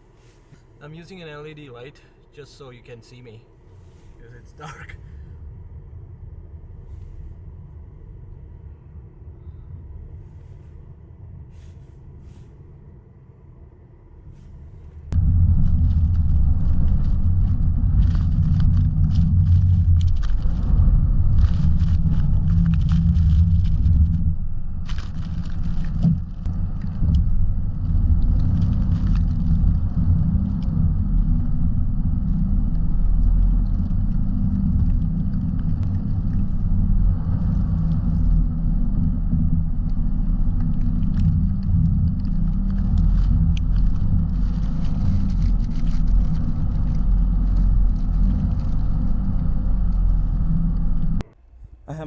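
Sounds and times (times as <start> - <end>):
car engine and tyres rumbling: 0.0 - 51.8.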